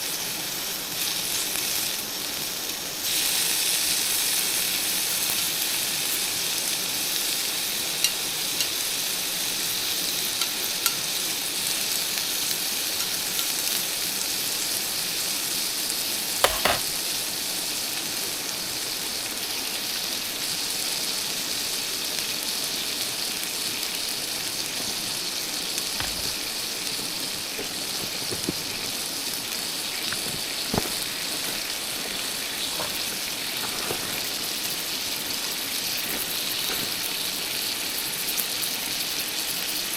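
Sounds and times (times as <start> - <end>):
food sizzling over campfire: 0.0 - 39.9.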